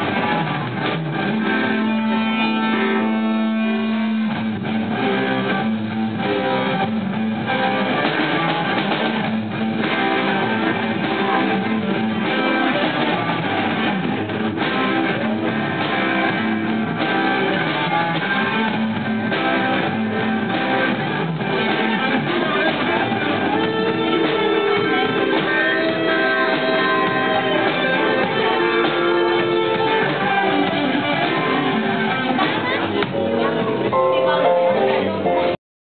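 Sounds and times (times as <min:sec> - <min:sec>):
drum kit with cymbal hits: 0:00.0 - 0:35.6
electric guitars: 0:00.0 - 0:35.6.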